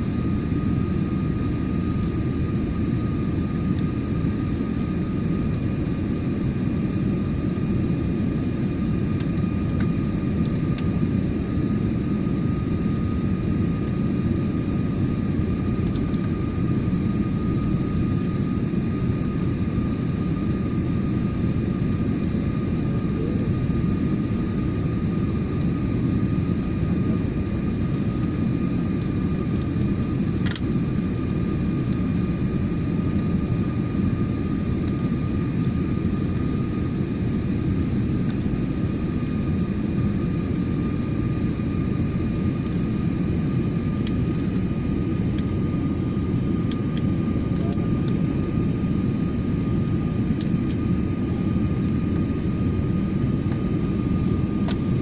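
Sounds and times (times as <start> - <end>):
airliner engine rumble: 0.0 - 55.0
faint steady whine: 0.0 - 55.0.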